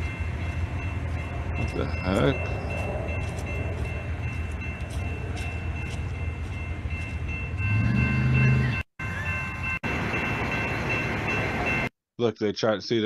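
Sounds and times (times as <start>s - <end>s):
train rumbling on tracks: 0.0s - 11.9s.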